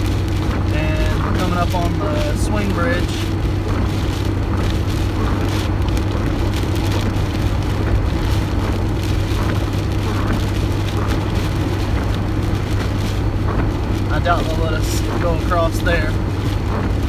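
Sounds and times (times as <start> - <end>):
car engine and road hum: 0.0 - 17.0
gusting wind: 0.0 - 17.0
rain pattering on car body: 0.0 - 17.0.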